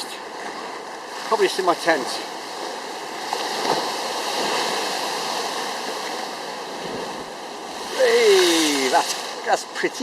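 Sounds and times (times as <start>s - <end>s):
water rushing: 0.0s - 10.0s.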